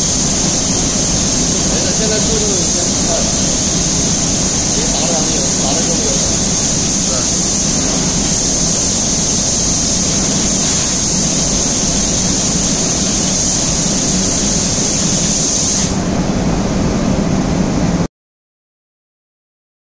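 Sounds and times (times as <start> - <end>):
spray guns hissing: 0.0 - 16.1
machine humming: 0.0 - 18.0.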